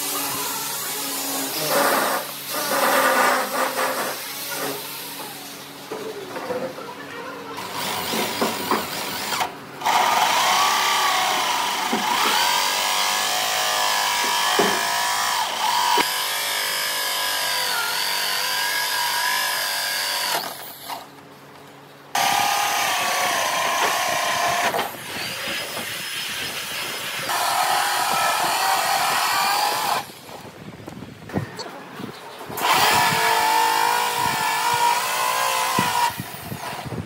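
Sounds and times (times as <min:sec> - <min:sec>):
electric drill with hole saw whining: 0:00.0 - 0:04.8, 0:07.6 - 0:21.1, 0:22.2 - 0:30.2, 0:32.6 - 0:36.9.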